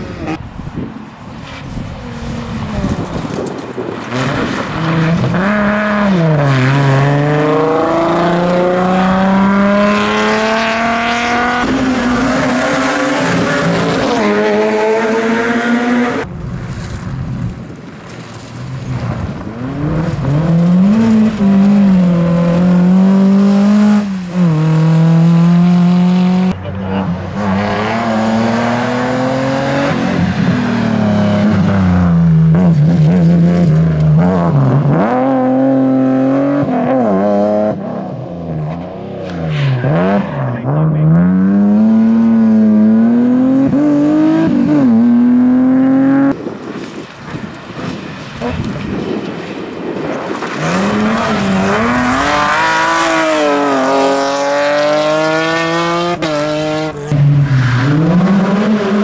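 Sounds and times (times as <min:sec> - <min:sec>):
rally car engine accelerating: 0:04.1 - 0:16.3, 0:18.9 - 0:46.4, 0:50.4 - 0:59.0.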